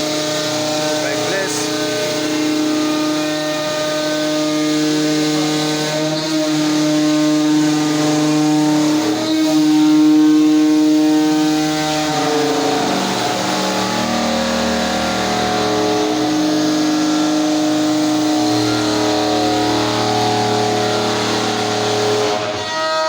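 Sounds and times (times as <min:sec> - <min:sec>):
cnc router motors whining: 0:00.0 - 0:23.0.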